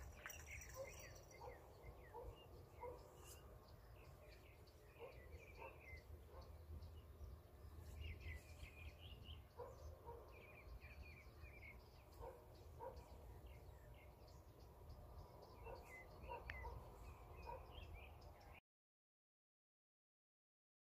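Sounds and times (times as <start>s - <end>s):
small birds chirping and twittering: 0.0s - 18.6s.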